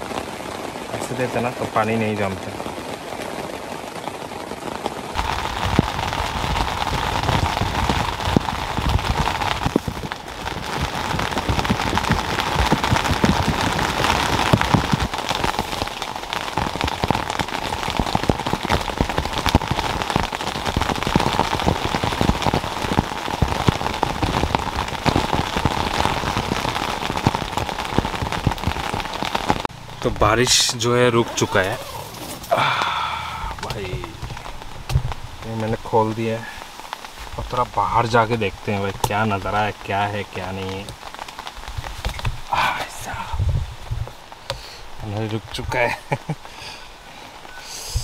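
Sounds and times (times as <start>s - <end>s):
rain pattering on tent: 0.0s - 48.0s.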